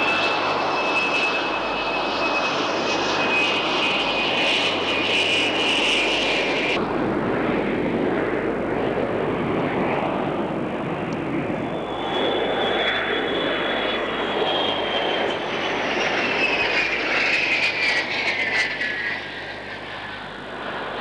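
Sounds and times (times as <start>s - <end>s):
jet engines roaring in flypast: 0.0s - 21.0s.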